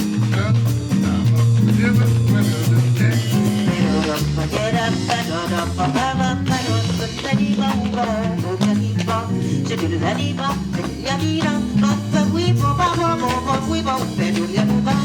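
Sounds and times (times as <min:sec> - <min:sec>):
upbeat ska band music: 0:00.0 - 0:15.0.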